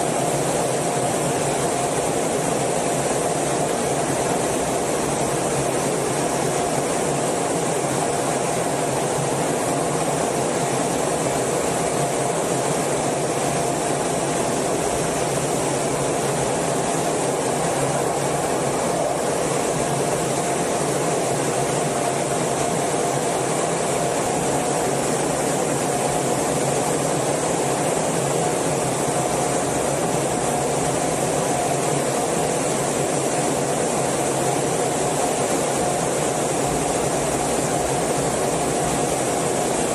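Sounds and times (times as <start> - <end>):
jet cockpit engine and air rush: 0.0 - 39.9
steady mid-pitched tone: 0.0 - 39.9.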